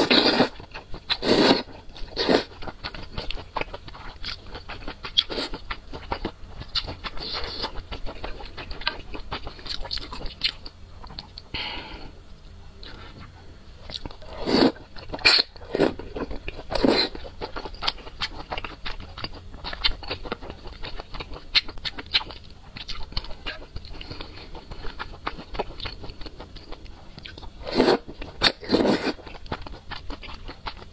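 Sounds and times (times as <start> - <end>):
wet chewing: 0.0 - 11.5, 12.8 - 30.9.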